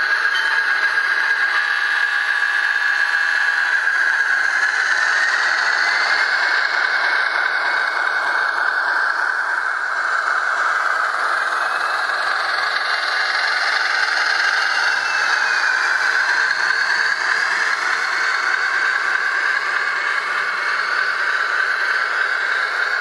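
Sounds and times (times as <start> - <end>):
diesel engine sound from small speaker: 0.0 - 23.0.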